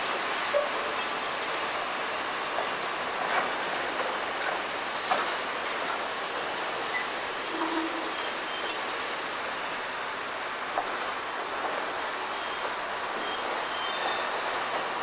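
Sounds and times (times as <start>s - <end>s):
train rolling on rails: 0.0s - 15.0s.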